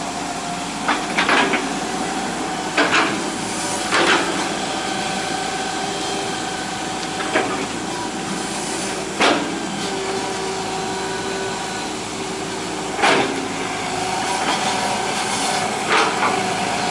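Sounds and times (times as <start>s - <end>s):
excavator engine and hydraulics whining: 0.0s - 16.9s.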